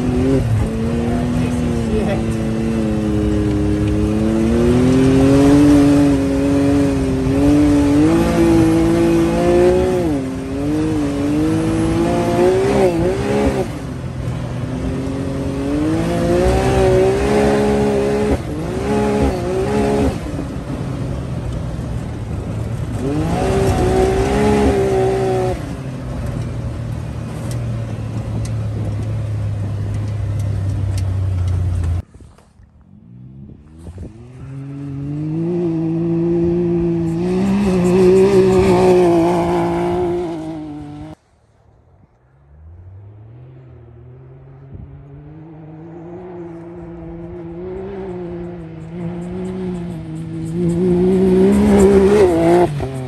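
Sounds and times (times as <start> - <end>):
engine revving: 0.0 - 32.0, 32.9 - 41.2, 42.5 - 53.0.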